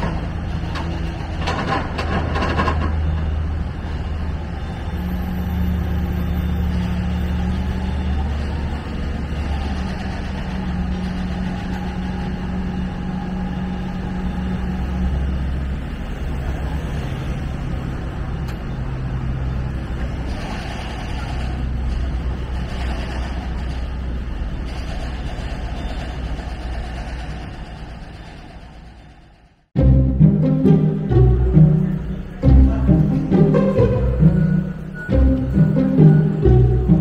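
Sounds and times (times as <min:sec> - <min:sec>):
vehicle engines passing: 0:00.0 - 0:37.0.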